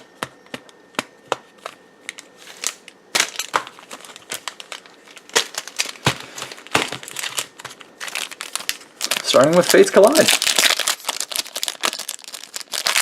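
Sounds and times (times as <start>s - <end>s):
plastic packaging rustling: 1.6s - 13.0s
foil wrappers crinkling: 2.0s - 13.0s.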